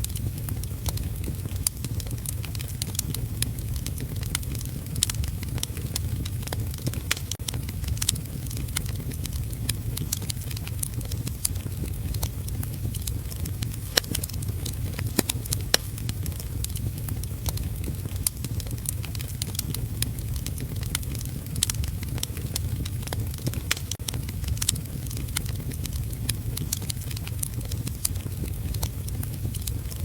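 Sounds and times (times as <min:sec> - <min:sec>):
low rumble of fire: 0:00.0 - 0:30.0
wood fire crackling and popping: 0:00.0 - 0:30.0.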